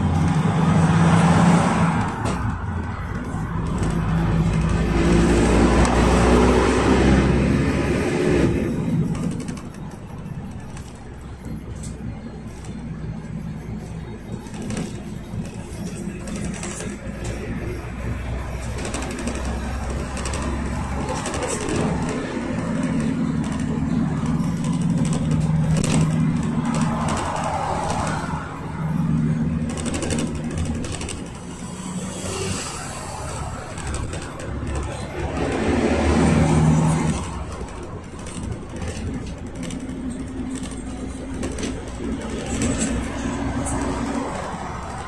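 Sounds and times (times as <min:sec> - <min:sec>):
diesel engine hum: 0:00.0 - 0:45.0
road and tyre noise: 0:00.0 - 0:45.0.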